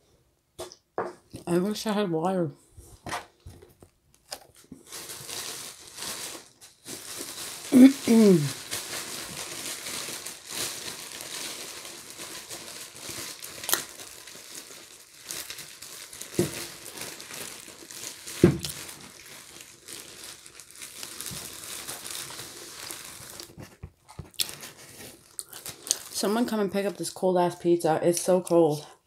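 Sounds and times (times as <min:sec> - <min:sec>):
packaging crinkling: 0:03.4 - 0:27.0.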